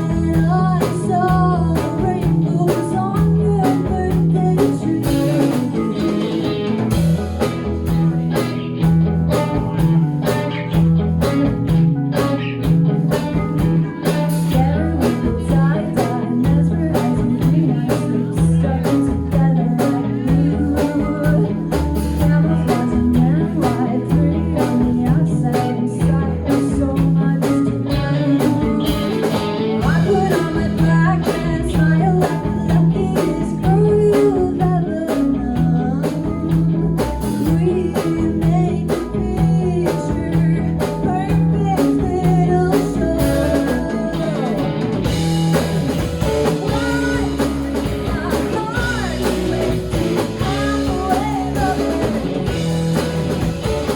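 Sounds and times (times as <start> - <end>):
bass guitar: 0.0 - 53.9
drum kit steady beat: 0.0 - 53.9
electric guitar lines: 0.0 - 53.9.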